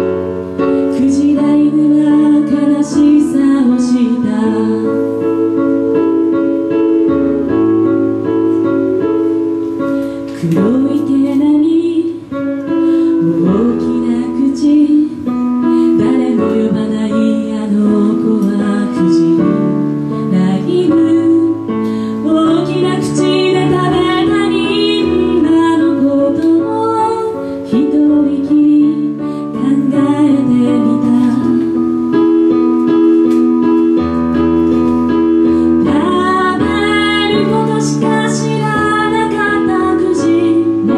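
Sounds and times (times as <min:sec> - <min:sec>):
woman singing: 0:00.0 - 0:32.6, 0:35.1 - 0:40.9
electric keyboard chords: 0:00.0 - 0:40.9.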